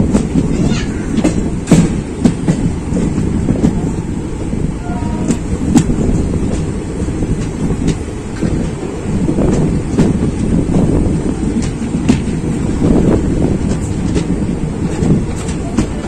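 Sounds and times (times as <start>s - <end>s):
train rumbling at speed: 0.0s - 16.0s
wheels clicking over rail joints: 0.0s - 16.0s.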